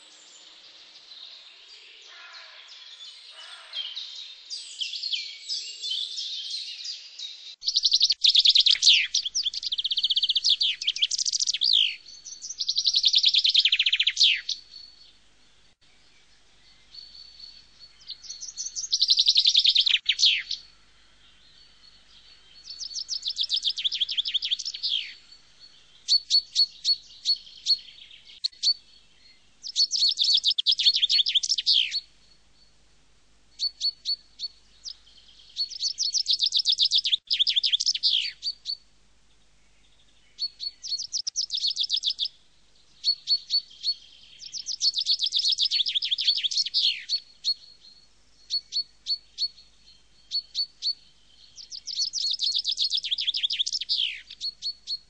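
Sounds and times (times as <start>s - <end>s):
songbird trilling phrase: 0.0s - 15.2s, 16.7s - 20.7s, 21.3s - 32.1s, 33.6s - 38.8s, 39.7s - 42.3s, 43.0s - 55.0s.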